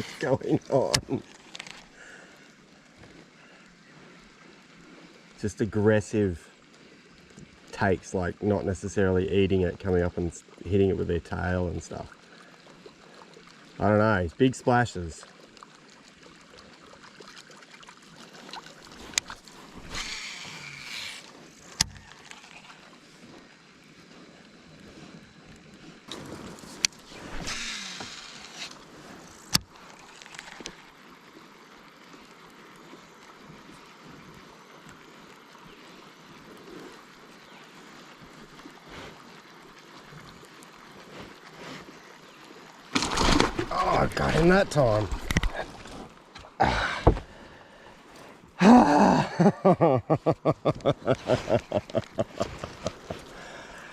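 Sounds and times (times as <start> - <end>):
water swish: 0.0 - 48.6, 50.1 - 53.9
water moving around kayak: 0.0 - 53.9.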